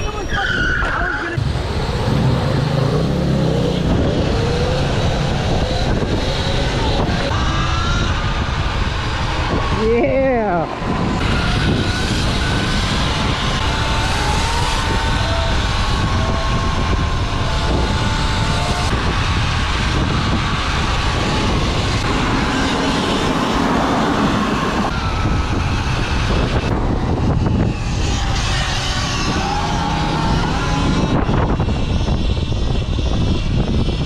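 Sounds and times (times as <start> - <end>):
motorbike engines whining: 0.0 - 34.0
wind rushing on microphone: 0.0 - 34.0.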